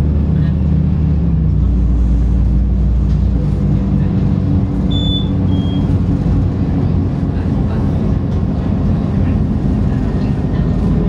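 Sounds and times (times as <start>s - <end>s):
bus engine drone: 0.0s - 11.0s
road noise: 0.0s - 11.0s.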